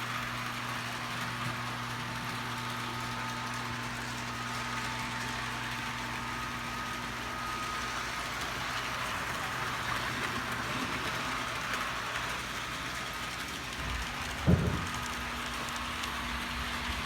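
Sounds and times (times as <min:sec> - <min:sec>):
wheels rolling on rails: 0:00.0 - 0:17.0.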